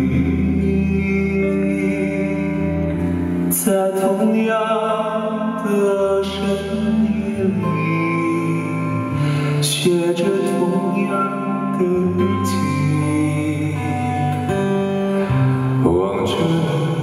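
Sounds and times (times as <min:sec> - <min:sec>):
man singing a ballad: 0:00.0 - 0:17.0.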